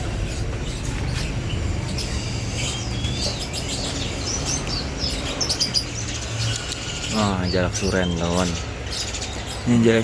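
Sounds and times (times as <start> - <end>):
songbirds chirping and whistling: 0.0 - 10.0.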